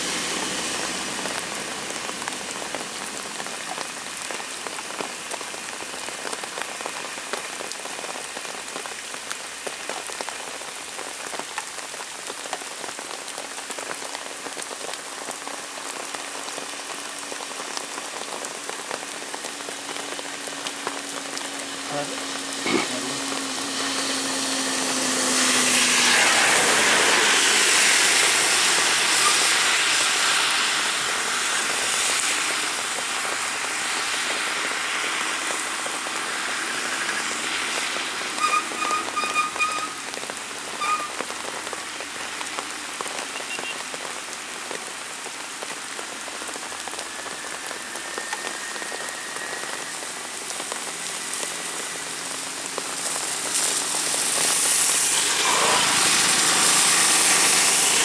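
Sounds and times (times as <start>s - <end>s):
heavy rain on a road: 0.0s - 58.0s
vehicles driving on wet road: 0.0s - 58.0s.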